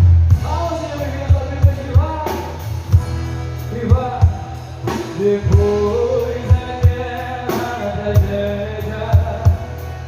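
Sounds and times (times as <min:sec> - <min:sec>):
live band music: 0:00.0 - 0:10.0
melodic lead line: 0:00.0 - 0:10.0.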